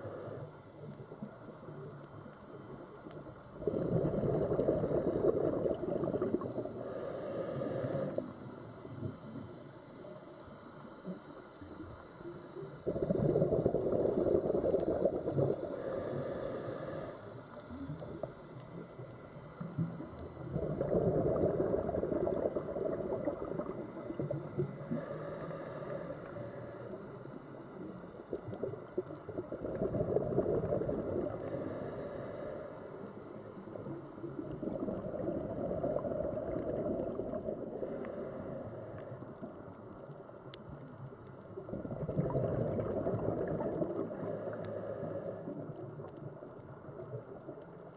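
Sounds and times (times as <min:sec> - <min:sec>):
exhaled bubbles gurgling underwater: 0:00.0 - 0:47.9.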